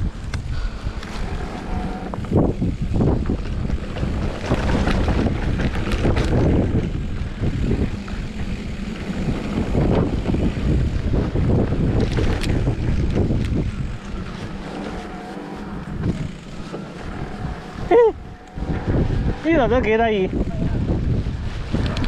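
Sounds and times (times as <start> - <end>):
bike rattling: 0.0 - 22.0
wind buffeting microphone: 0.0 - 22.0
tyres on muddy trail: 0.1 - 22.0.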